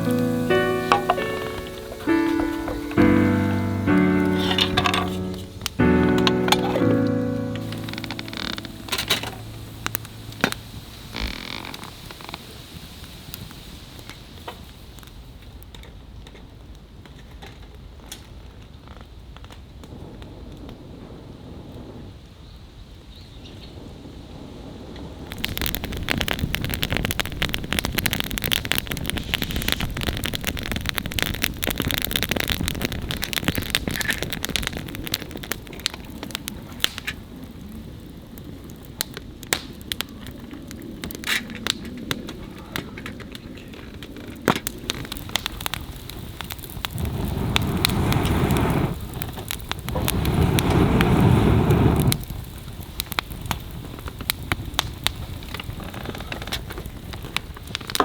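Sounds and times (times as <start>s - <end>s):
wood fire crackling and popping: 0.0s - 22.0s, 24.9s - 58.0s.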